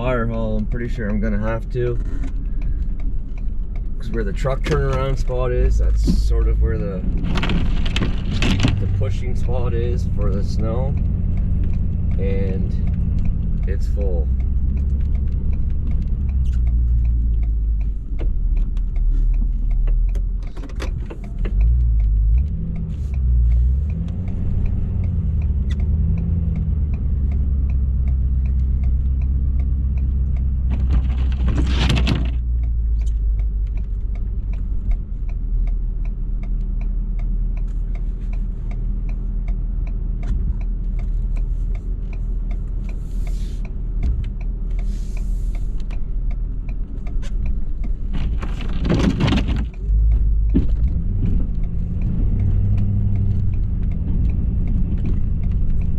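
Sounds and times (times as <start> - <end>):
diesel pickup engine running: 0.0 - 55.9.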